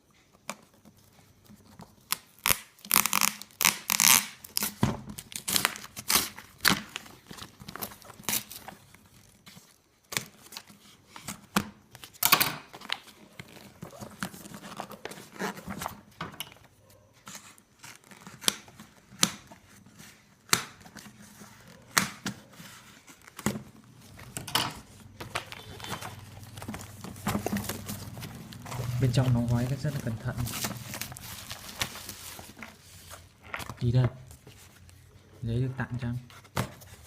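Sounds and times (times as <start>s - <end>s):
packaging ripping and rustling: 0.9s - 16.2s, 17.2s - 35.1s.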